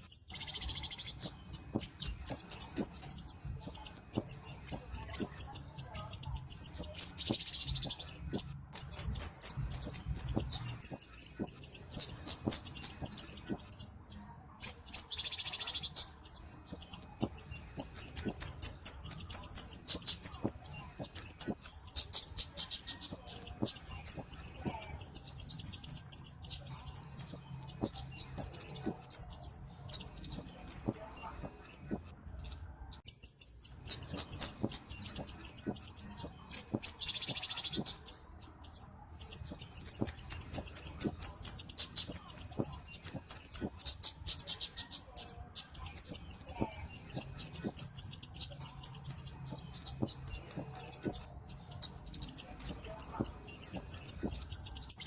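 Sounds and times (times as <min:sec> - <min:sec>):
bird ticking song: 0:00.0 - 0:55.0.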